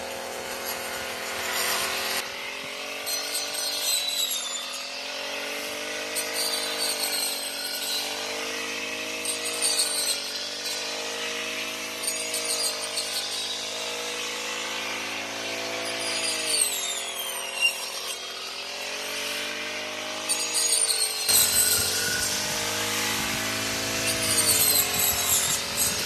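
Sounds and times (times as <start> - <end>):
small engine running: 0.0 - 26.0.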